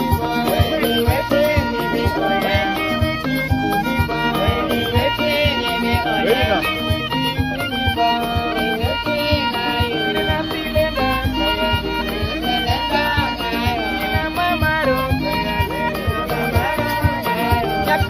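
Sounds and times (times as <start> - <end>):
background music with sliding melody: 0.0 - 18.0.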